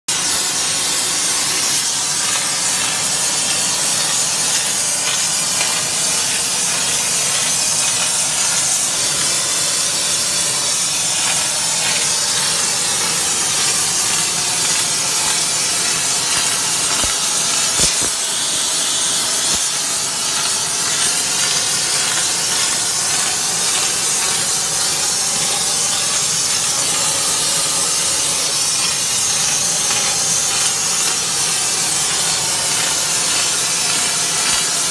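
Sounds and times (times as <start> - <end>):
gas torch hissing: 0.1 - 34.9.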